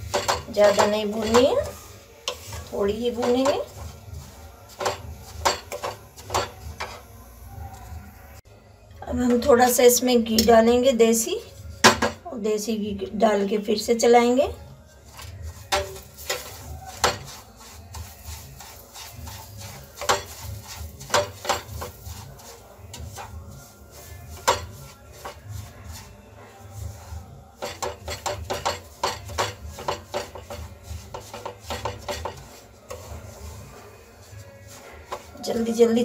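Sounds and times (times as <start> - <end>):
wooden spatula scraping a pan: 0.0 - 7.9, 9.3 - 12.3, 13.8 - 36.0.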